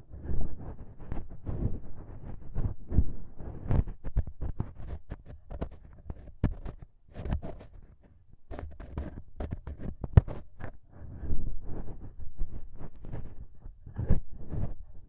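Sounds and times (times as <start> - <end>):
ear pick scratching microphone: 0.1 - 15.0.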